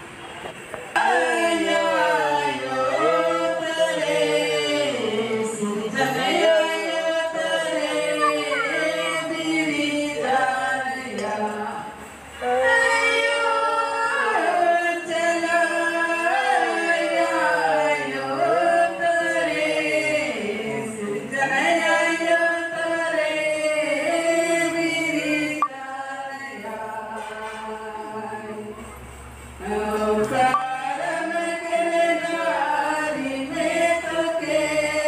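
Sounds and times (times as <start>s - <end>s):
women singing together: 0.9s - 35.0s.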